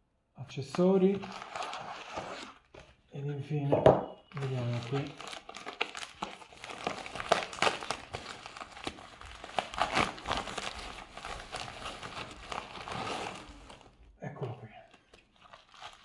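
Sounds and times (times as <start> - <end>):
plastic packaging crinkling: 0.7 - 2.9, 4.3 - 16.0.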